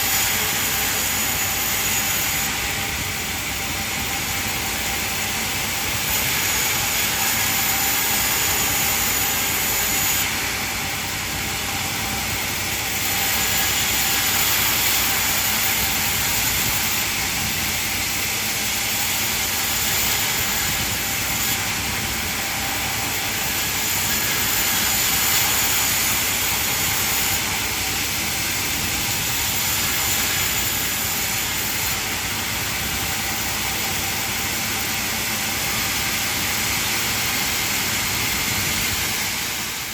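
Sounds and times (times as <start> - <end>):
saw blade cutting timber: 0.0 - 39.9
thin high whine: 0.0 - 39.9.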